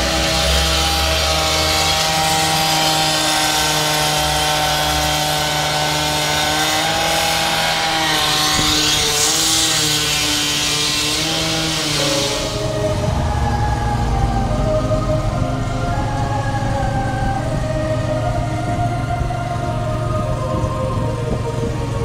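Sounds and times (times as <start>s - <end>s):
cut-off saw cutting concrete: 0.0s - 18.3s.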